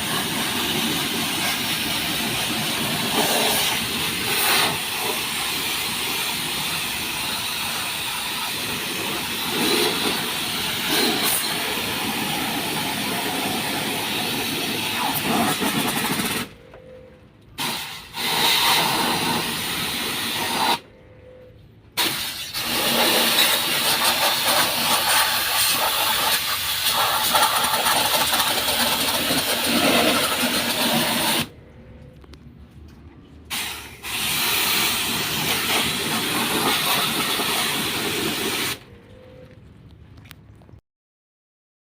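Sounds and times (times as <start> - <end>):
high-pressure water jet spraying: 0.0 - 16.5, 17.6 - 20.8, 22.0 - 31.5, 33.5 - 38.8.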